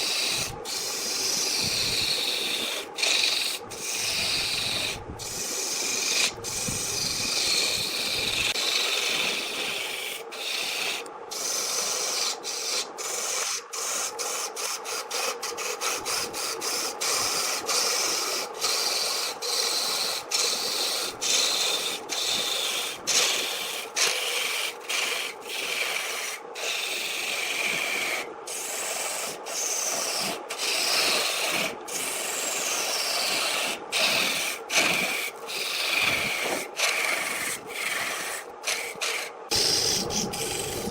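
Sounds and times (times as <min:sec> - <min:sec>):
wood rasping on a lathe: 0:00.0 - 0:40.9.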